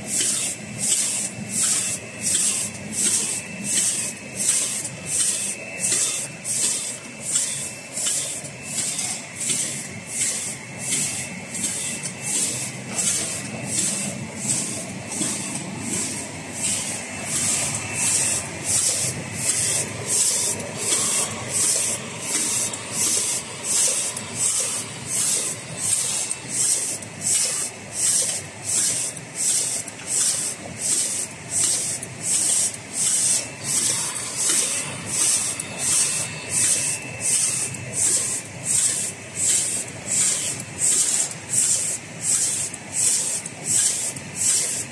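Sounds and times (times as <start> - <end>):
printing machine running: 0.0 - 44.9.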